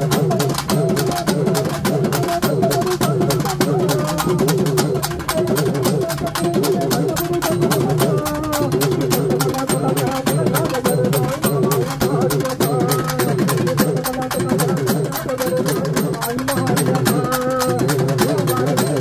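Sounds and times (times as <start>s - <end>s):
fast drum strokes: 0.0s - 19.0s.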